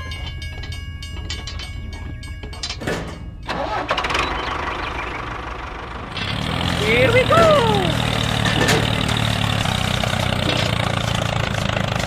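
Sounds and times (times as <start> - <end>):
small tractor engine running: 0.0 - 12.0.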